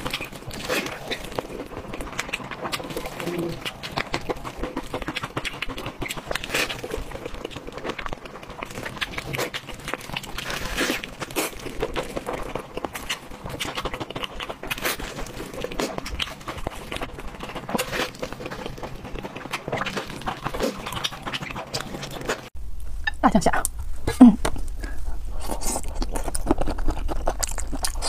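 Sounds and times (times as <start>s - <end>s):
chewing and biting meat: 0.0s - 22.5s, 25.5s - 28.0s.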